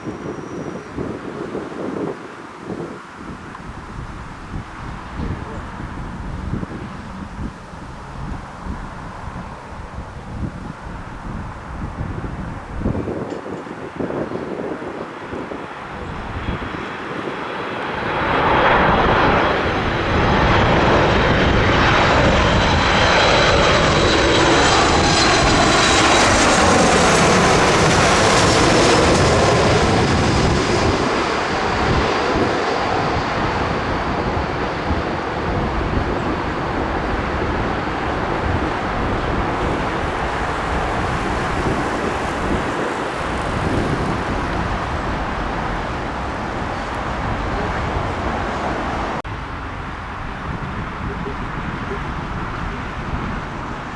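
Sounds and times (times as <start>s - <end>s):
airliner passing overhead: 0.0s - 53.9s.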